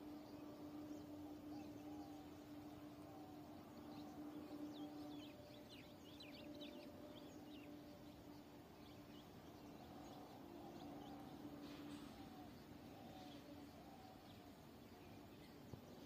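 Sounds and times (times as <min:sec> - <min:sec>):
faint bird chirps: 0:00.0 - 0:16.0
faint low hum: 0:00.0 - 0:16.0.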